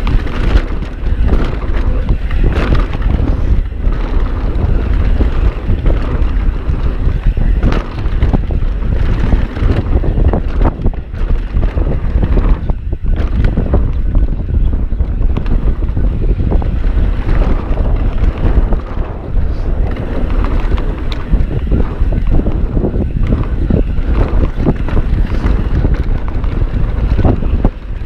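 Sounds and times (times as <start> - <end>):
bike knocking and rattling: 0.0 - 28.0
bike tyre noise on dirt: 0.0 - 28.0
wind buffeting microphone: 0.0 - 28.0.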